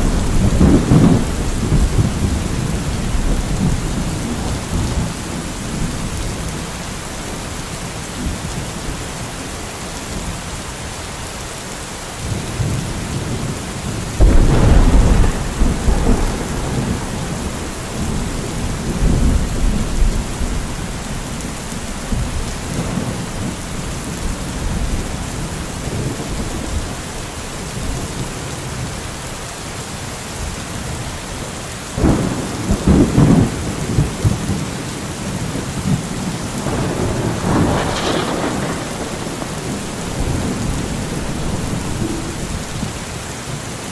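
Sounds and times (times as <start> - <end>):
thunder rumbling: 0.0 - 8.7, 12.3 - 28.9, 32.0 - 43.6
heavy rain: 0.0 - 43.9.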